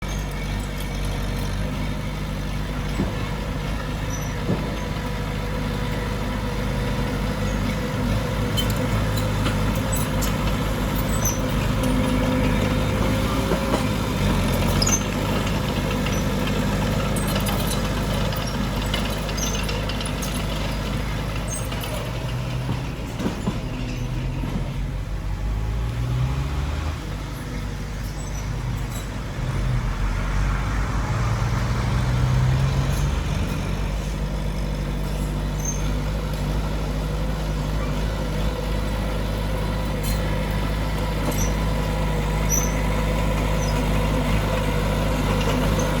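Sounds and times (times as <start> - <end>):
heavy diesel machinery running: 0.0 - 46.0.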